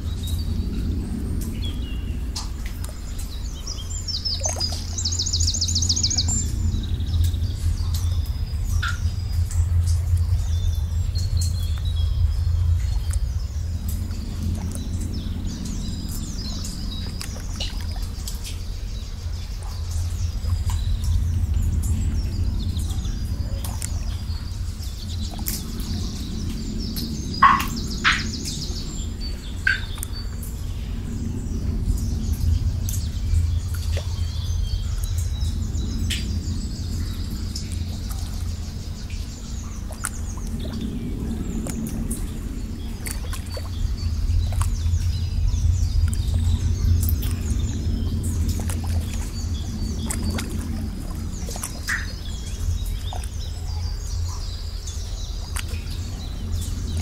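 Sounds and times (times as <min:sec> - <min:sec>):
drip-like plinks: 0:00.0 - 0:57.0
flowing water rushing: 0:00.0 - 0:57.0
small birds chirping: 0:00.0 - 0:57.0.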